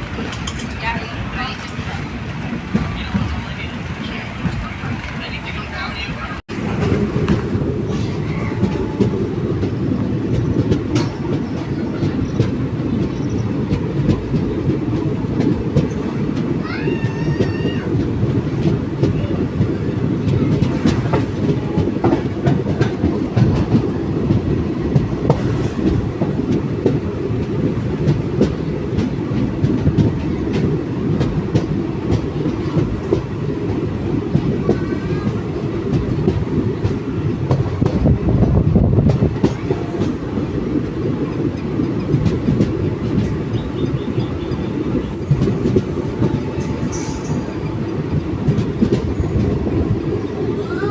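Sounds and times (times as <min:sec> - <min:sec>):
train rumbling: 0:00.0 - 0:50.9
wheels clacking over rail joints: 0:00.0 - 0:50.9.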